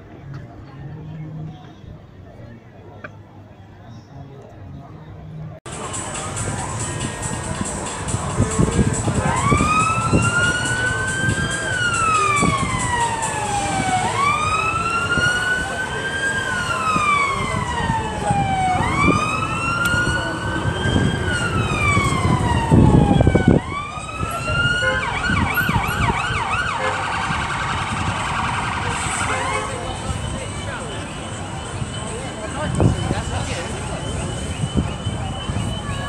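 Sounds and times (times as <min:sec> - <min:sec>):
emergency vehicle siren wailing: 0:05.7 - 0:36.0.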